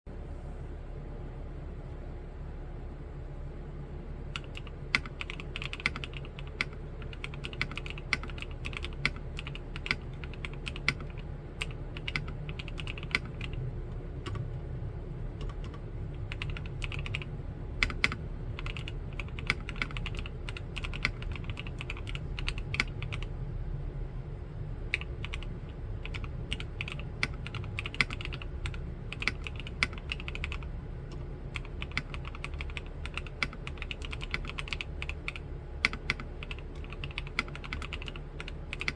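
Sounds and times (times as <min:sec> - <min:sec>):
clacky mechanical keyboard typing: 0:04.4 - 0:13.6, 0:14.2 - 0:14.6, 0:15.4 - 0:23.3, 0:24.9 - 0:38.9.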